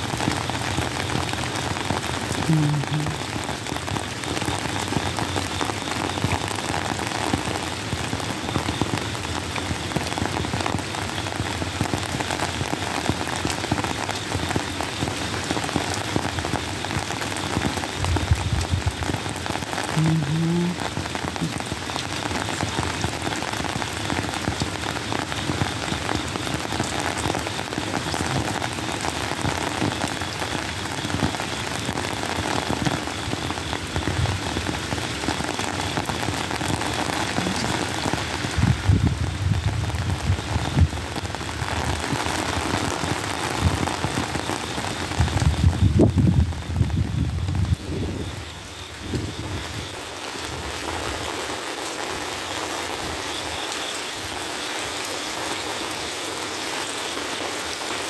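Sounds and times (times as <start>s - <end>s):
rain on wet pavement: 0.0s - 58.0s.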